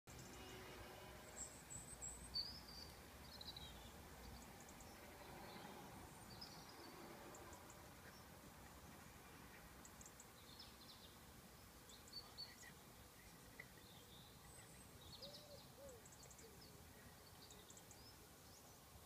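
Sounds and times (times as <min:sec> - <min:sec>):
background hiss: 0:00.1 - 0:19.0.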